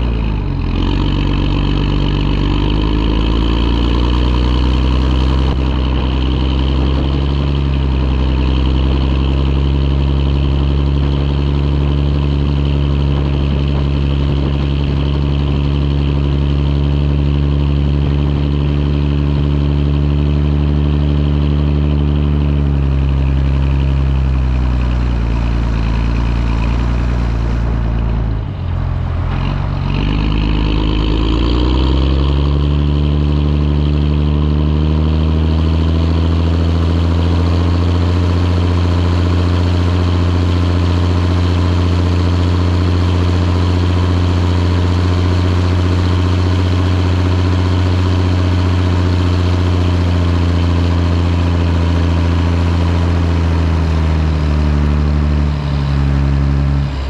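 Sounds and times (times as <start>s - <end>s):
tractor diesel engine: 0.0s - 57.0s.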